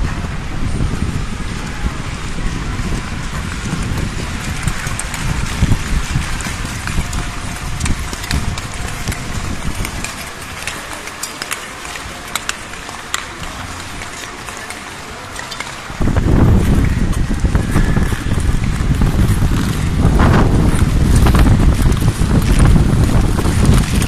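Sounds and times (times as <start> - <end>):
wind rumble on microphone: 0.0 - 12.7, 15.8 - 24.0
skate blades scraping ice: 0.0 - 24.0.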